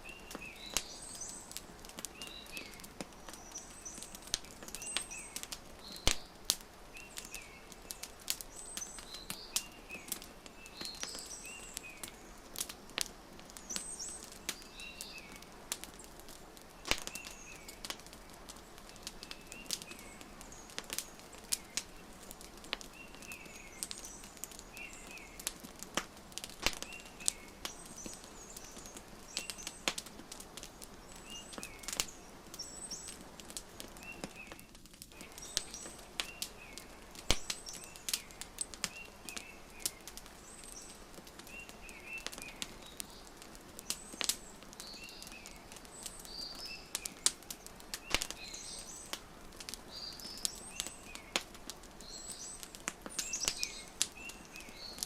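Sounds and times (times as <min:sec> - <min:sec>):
small birds chirping: 0:00.0 - 0:55.0
wood fire crackling: 0:00.0 - 0:55.0.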